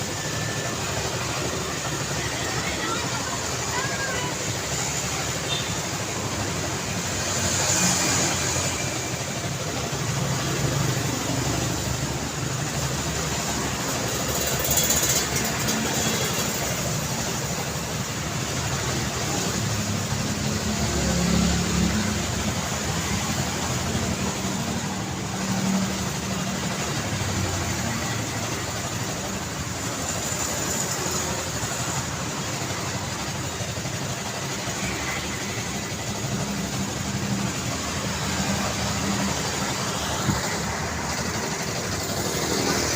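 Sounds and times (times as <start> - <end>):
car engines and tyre noise: 0.0 - 42.9
vehicles passing: 0.0 - 42.9.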